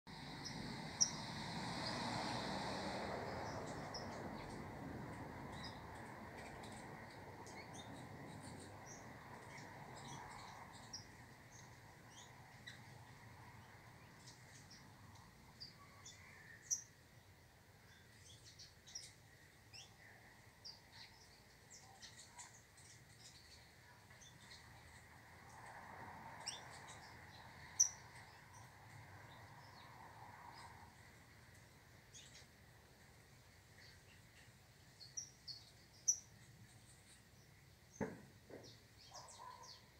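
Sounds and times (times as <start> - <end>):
birds chirping: 0.1 - 25.7, 26.3 - 39.9
low rushing background noise: 0.1 - 39.1.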